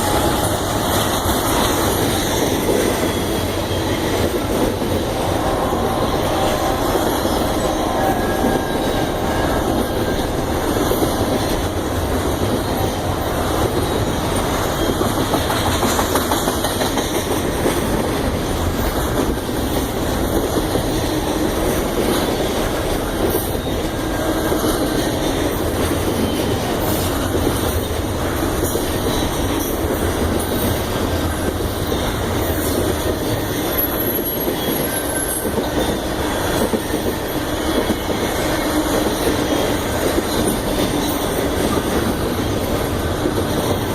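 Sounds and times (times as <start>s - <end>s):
train cars rumbling on rails: 0.0s - 43.9s
wheels clicking over rail joints: 0.0s - 43.9s.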